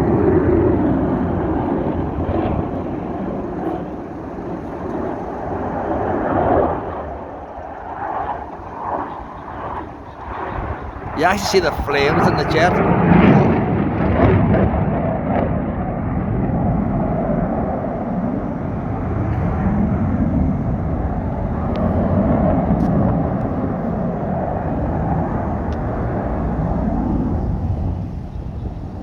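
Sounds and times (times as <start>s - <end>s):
jet engine on afterburner: 0.0s - 29.0s.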